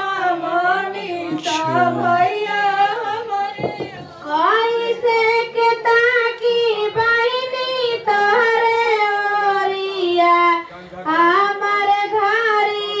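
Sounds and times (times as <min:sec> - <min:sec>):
person singing unaccompanied: 0:00.0 - 0:10.4.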